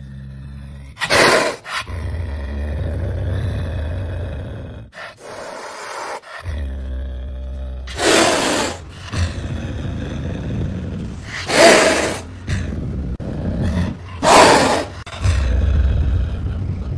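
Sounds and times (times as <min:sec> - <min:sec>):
low rumbling growl: 0:00.0 - 0:16.9
wild cat hissing and snarling: 0:00.0 - 0:16.9.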